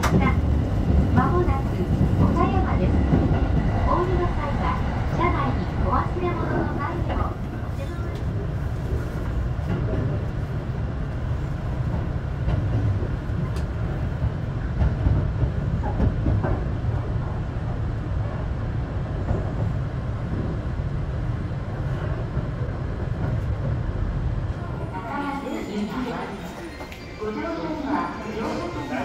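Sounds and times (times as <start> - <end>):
train running rumble: 0.0 - 25.2.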